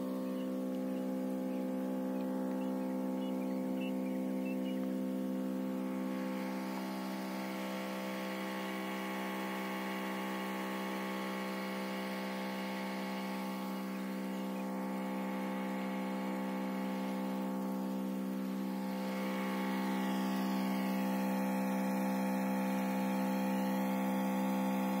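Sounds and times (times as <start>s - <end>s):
electric pump humming: 0.0s - 25.0s.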